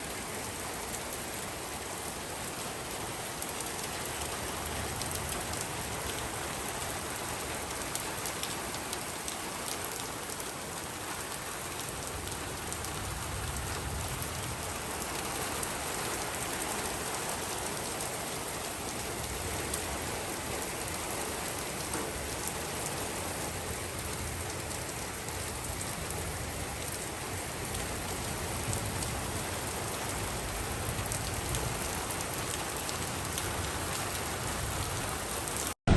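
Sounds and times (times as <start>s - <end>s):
heavy rain on hard surfaces: 0.0s - 35.9s.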